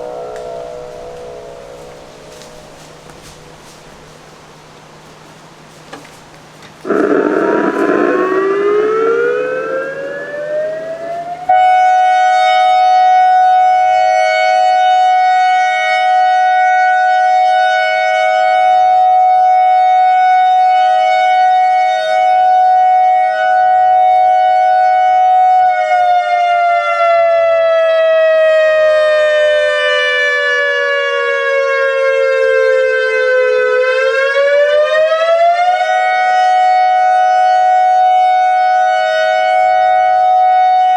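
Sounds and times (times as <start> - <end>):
electronic siren tone: 0.0 - 3.5, 6.8 - 40.9.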